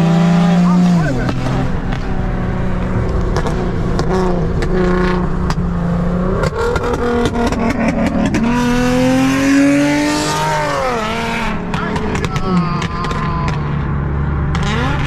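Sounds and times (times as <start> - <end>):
car engine droning and revving: 0.0 - 15.0.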